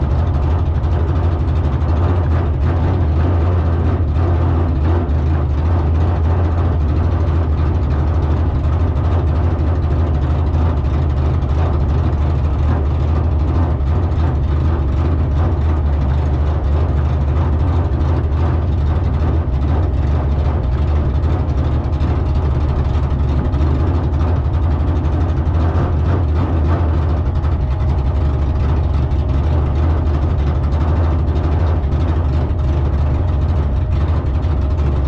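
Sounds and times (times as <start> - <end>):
vehicle engine droning: 0.0 - 35.0.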